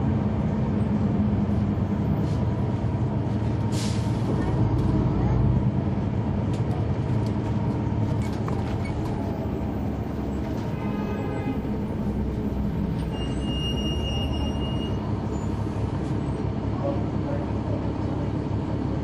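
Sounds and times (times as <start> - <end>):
bus diesel engine rumbling: 0.0 - 19.0.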